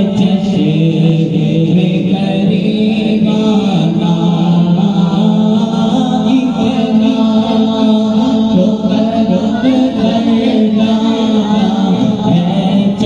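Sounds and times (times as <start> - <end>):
vocal chorus singing: 0.0 - 13.0.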